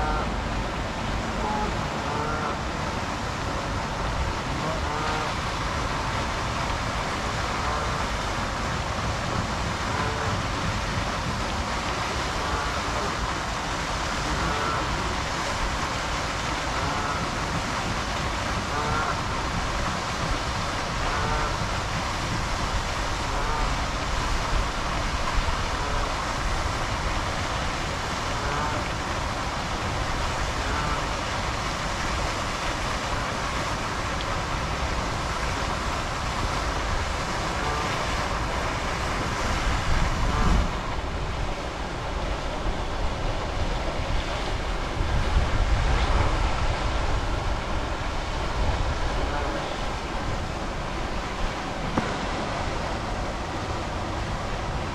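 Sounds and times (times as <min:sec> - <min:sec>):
steady outdoor rushing noise: 0:00.0 - 0:54.9
wind buffeting microphone: 0:00.0 - 0:54.9.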